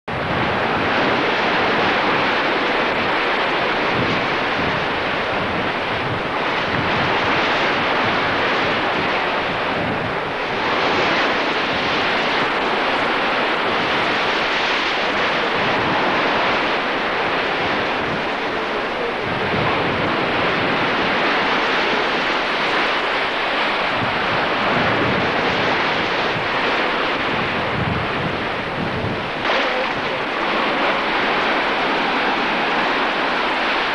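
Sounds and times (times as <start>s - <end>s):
sea surf washing onto beach: 0.1s - 33.9s
wind buffeting microphone: 0.1s - 33.9s.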